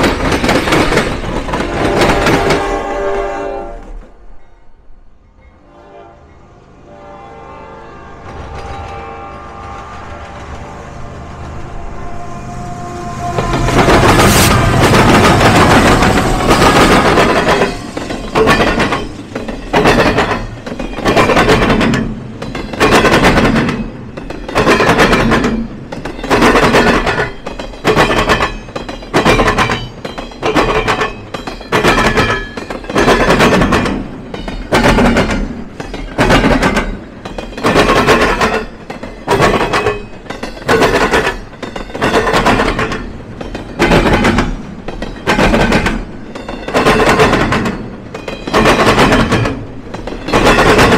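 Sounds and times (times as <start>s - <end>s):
train wheels clattering over crossing: 0.0s - 3.0s, 8.2s - 50.9s.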